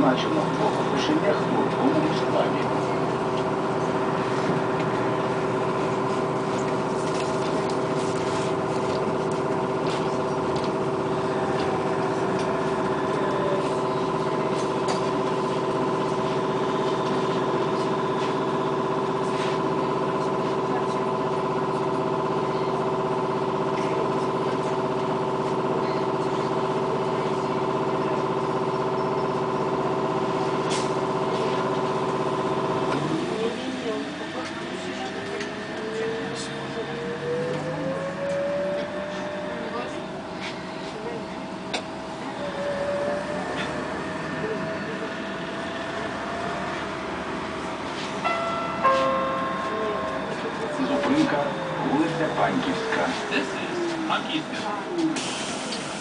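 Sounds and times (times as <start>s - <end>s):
rumble of the ride: 0.0s - 56.0s.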